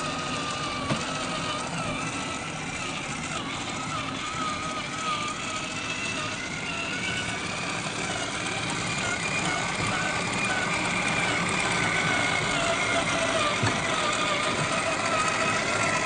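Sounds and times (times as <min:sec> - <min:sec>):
electric motor and gearbox whining: 0:00.0 - 0:16.0.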